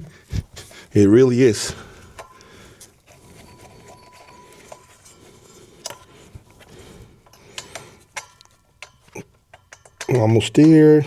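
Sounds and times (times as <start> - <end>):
cable handling noise: 1.6 - 10.8.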